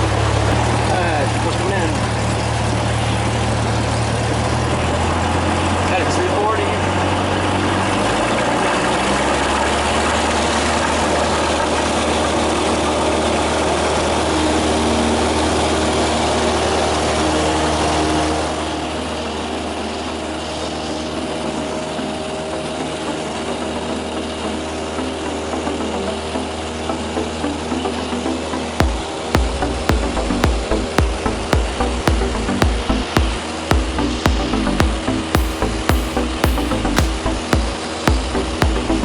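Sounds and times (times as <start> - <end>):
light aircraft engine drone: 0.0 - 35.4.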